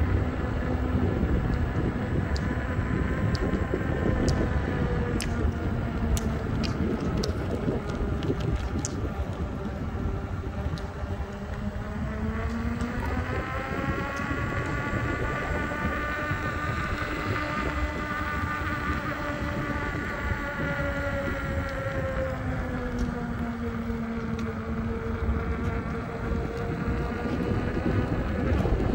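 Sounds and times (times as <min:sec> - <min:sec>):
electric motor whining: 0:00.0 - 0:28.9
wind rumble on microphone: 0:00.0 - 0:28.9.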